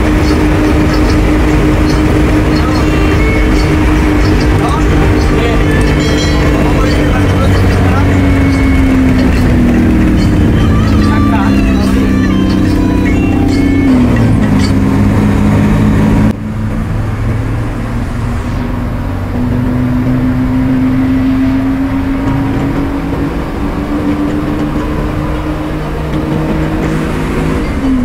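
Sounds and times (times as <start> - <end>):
bus diesel engine running: 0.0 - 28.0
road noise: 0.0 - 28.0.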